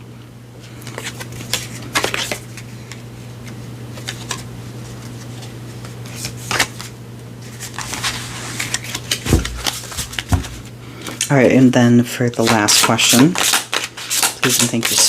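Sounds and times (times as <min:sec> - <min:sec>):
steady low hum: 0:00.0 - 0:15.0
cards being shuffled: 0:00.7 - 0:10.7, 0:12.4 - 0:15.0.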